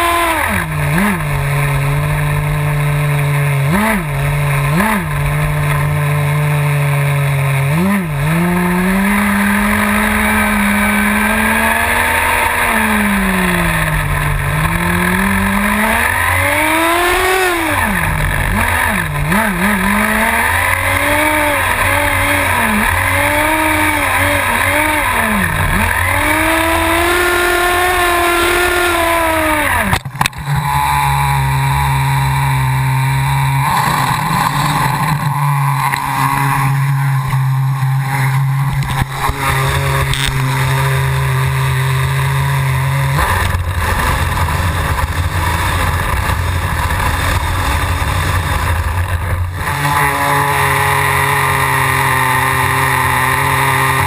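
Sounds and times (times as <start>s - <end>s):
nitro engine idling and revving: 0.0s - 54.0s.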